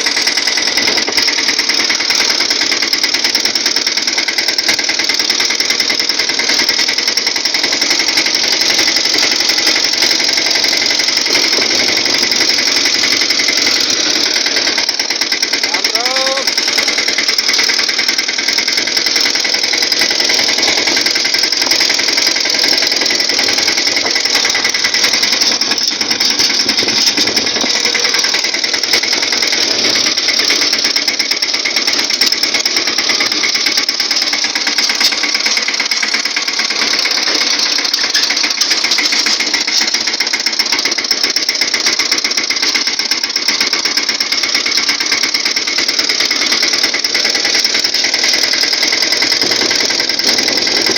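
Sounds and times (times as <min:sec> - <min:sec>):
diesel engine rattling: 0:00.0 - 0:50.9.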